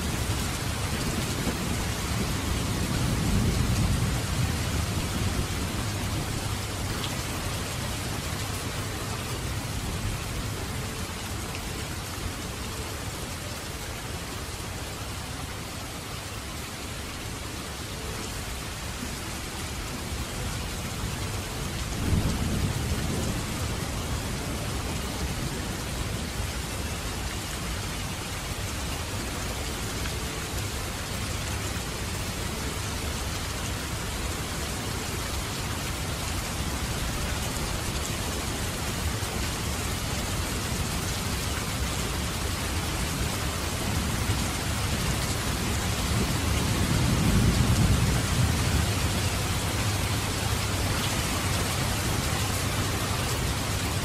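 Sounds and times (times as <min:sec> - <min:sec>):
rain on a canopy roof: 0:00.0 - 0:54.0.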